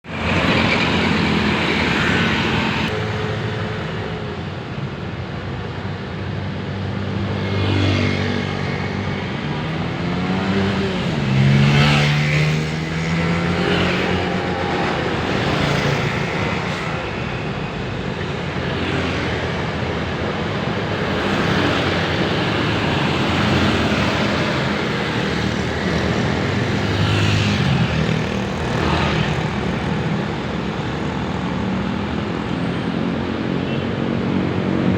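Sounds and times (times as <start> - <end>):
vehicles passing: 0.0 - 34.9.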